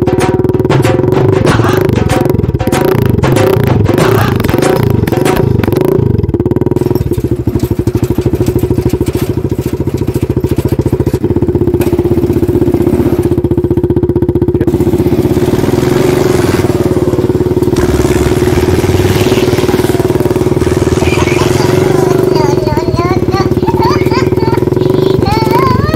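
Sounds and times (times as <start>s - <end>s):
small tractor engine running: 0.0s - 25.9s.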